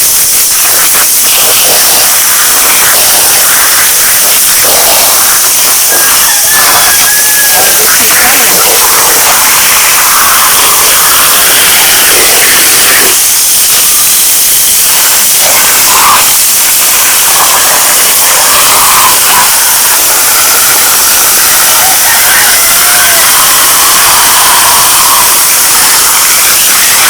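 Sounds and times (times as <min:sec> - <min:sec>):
water rushing: 0:00.0 - 0:27.0.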